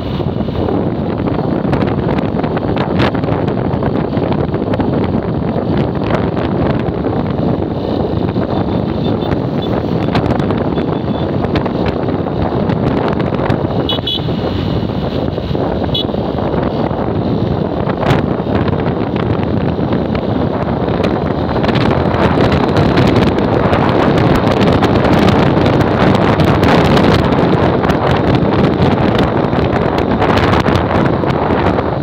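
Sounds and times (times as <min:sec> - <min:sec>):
motorcycle engine and road noise: 0:00.0 - 0:32.0
wind buffeting microphone: 0:00.0 - 0:32.0.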